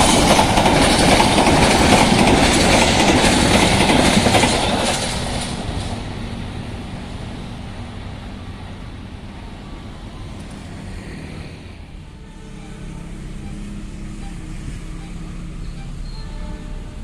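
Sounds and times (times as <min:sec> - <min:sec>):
passing train rumble: 0:00.0 - 0:17.0.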